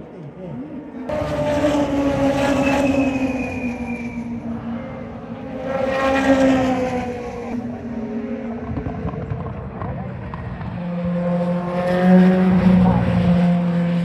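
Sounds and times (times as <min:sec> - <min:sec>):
racing cars passing: 0:00.1 - 0:14.0.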